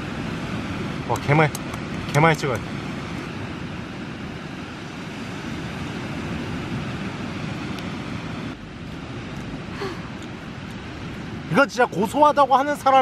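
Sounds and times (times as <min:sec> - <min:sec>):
outdoor rumbling hiss: 0:00.0 - 0:13.0.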